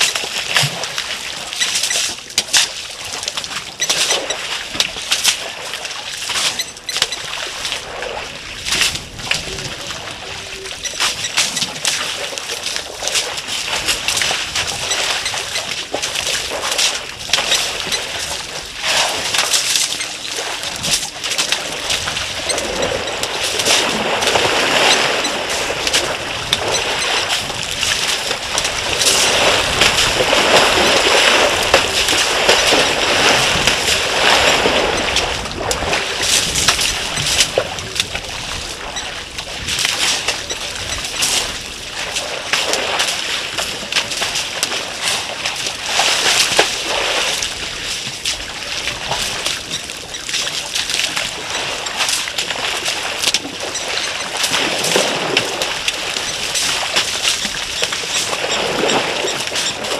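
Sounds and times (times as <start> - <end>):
elephants splashing in water: 0.0 - 59.9.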